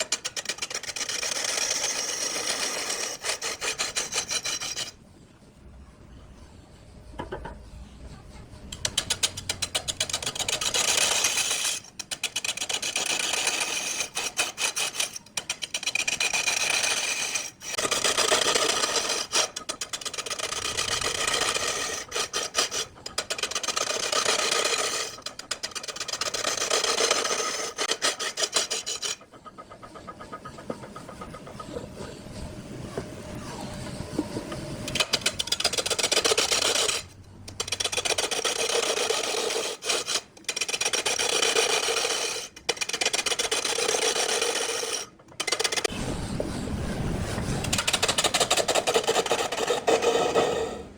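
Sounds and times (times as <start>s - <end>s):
lathe tool scraping wood: 9.9s - 50.9s.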